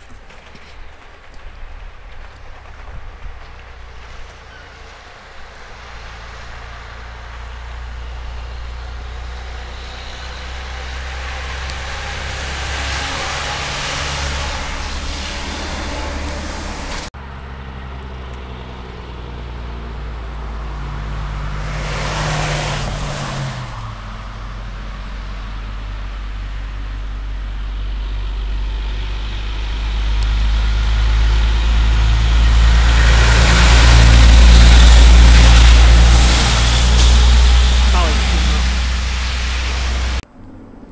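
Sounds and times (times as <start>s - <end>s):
diesel trucks driving past: 0.0s - 40.9s.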